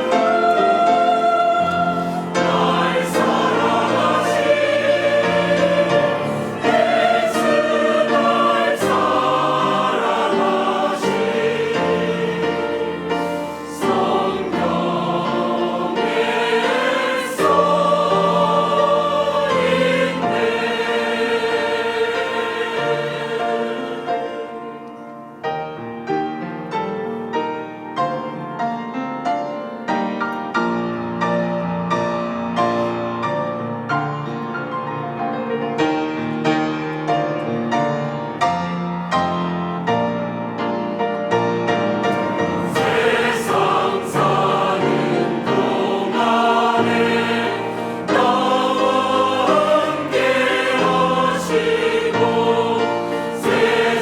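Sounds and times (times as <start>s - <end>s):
choir singing a hymn: 0.0s - 25.8s, 36.0s - 54.0s
piano playing: 0.0s - 54.0s.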